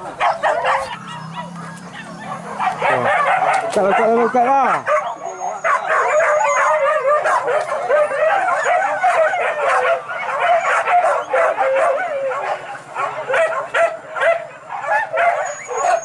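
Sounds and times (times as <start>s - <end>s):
dogs yelping and baying: 0.0s - 16.0s.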